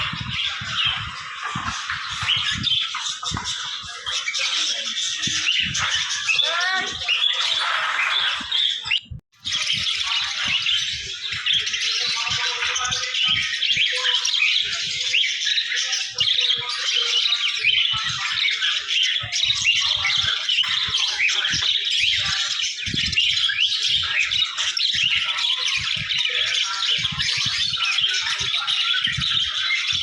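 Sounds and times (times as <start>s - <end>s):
small birds chirping and squawking: 0.0s - 30.0s.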